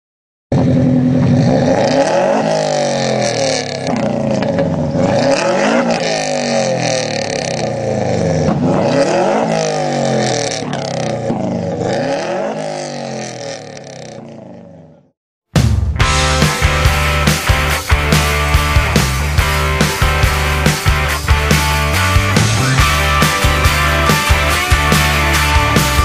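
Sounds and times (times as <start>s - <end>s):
car engine revving: 0.5s - 15.1s, 16.1s - 26.0s.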